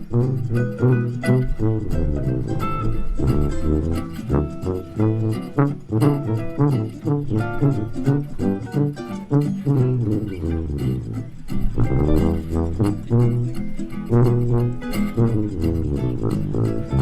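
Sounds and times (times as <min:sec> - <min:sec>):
jazz band playing: 0:00.0 - 0:17.0
plucked double bass: 0:00.0 - 0:17.0.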